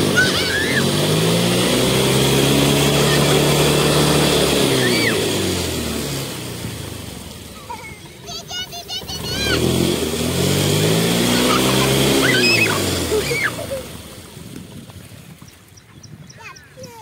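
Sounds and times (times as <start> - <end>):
scooter engine revving: 0.0 - 15.1
wheel spinning in water spray: 0.0 - 15.8.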